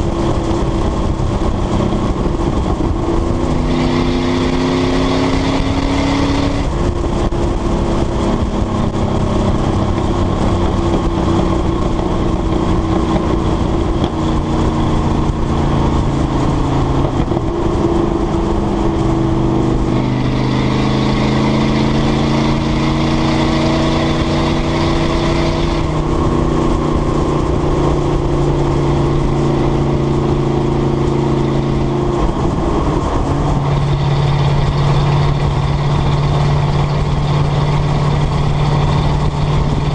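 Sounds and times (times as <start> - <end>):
car engine exhaust while driving: 0.0 - 39.9
wind noise: 0.0 - 39.9.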